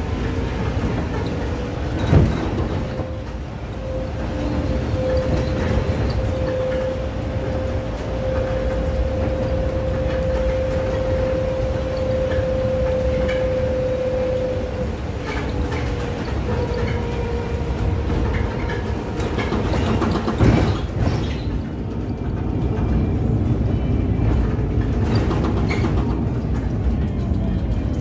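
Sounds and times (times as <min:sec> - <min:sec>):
bus jolting over bump: 0:00.0 - 0:28.0
road and tyre rumble: 0:00.0 - 0:28.0.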